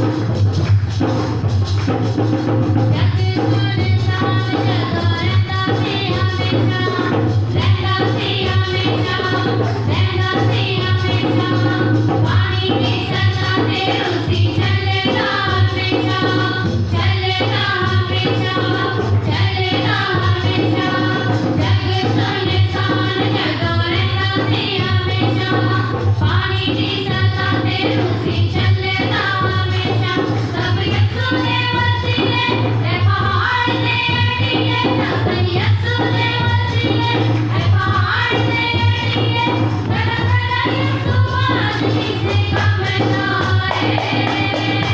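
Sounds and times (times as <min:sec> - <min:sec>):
people singing worship song: 0:00.0 - 0:44.9.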